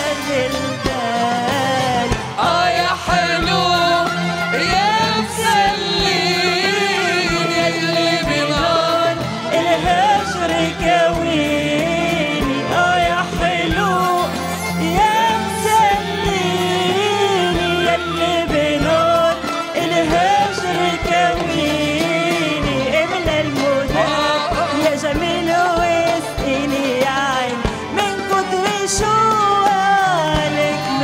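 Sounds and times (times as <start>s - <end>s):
band playing music: 0.0s - 31.0s
steady drum beat: 0.0s - 31.0s
woman singing into a microphone: 0.0s - 31.0s.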